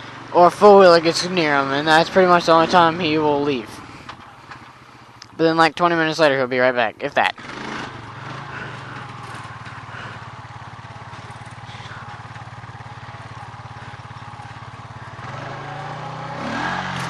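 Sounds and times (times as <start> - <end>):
small engine running: 0.0 - 5.7, 6.6 - 17.0.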